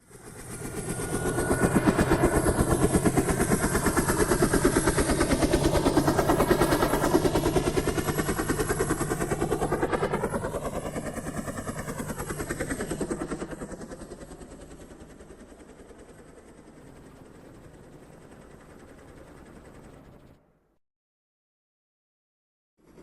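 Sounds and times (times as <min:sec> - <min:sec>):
helicopter rotor beating: 0:00.0 - 0:20.5
helicopter engine hum: 0:00.0 - 0:20.6.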